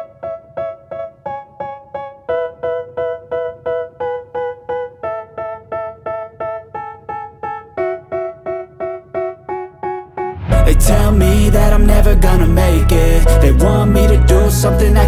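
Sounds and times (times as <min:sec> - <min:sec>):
keyboard riff repeating chords: 0:00.0 - 0:15.0.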